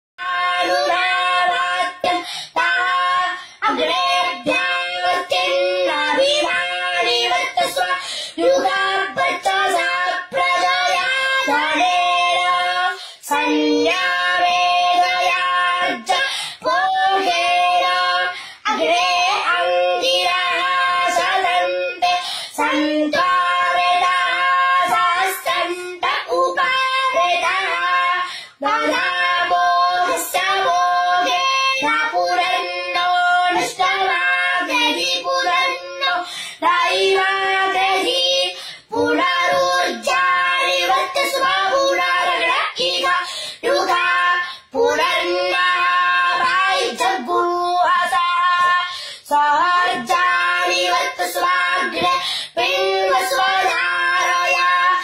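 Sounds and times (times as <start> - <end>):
boy chanting: 0.2 - 55.0.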